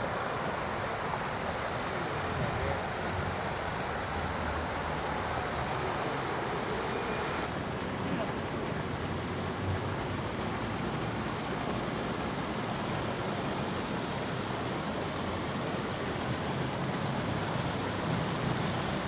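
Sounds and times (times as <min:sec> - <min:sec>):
stream babbling: 0:00.0 - 0:19.0.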